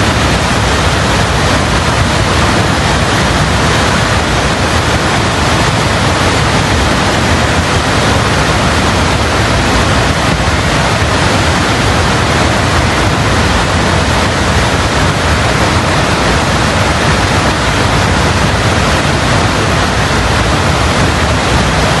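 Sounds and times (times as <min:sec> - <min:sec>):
river torrent rushing: 0:00.0 - 0:22.0.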